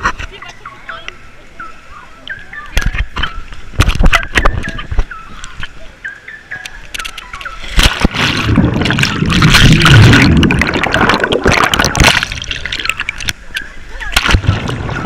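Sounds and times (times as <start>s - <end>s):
underwater bubbling: 2.6s - 15.0s
rushing water: 2.8s - 15.0s.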